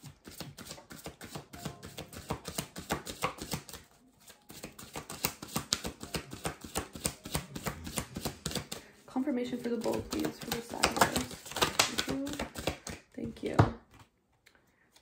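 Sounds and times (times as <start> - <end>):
cards being shuffled: 0.0 - 13.1.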